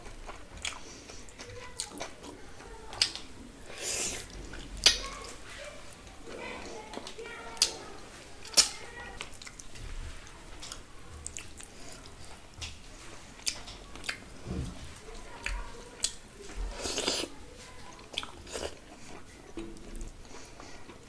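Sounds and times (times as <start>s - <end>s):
person chewing food: 0.0s - 5.5s, 6.3s - 21.0s.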